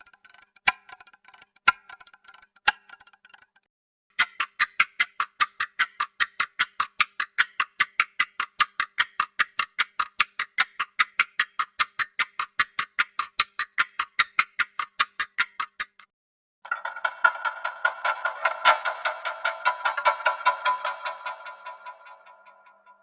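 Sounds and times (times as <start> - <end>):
clock ticking fast: 0.0 - 3.6, 4.2 - 16.1, 18.0 - 22.6.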